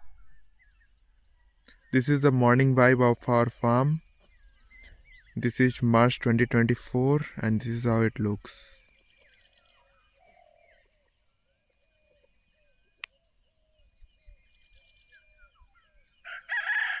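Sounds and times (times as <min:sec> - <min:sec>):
birds chirping and whistling: 0:00.0 - 0:16.4.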